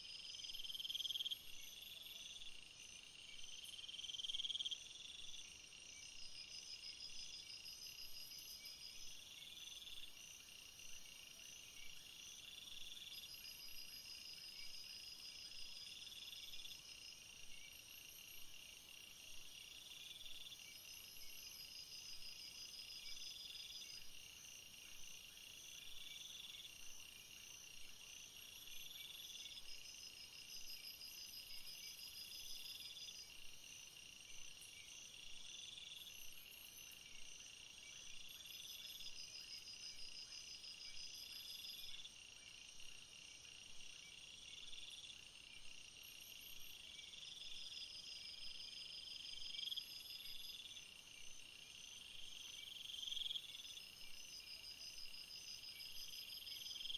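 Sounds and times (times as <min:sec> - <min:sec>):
insects chirping trills: 0:00.0 - 0:56.9
insects pulsing steadily: 0:00.0 - 0:56.9.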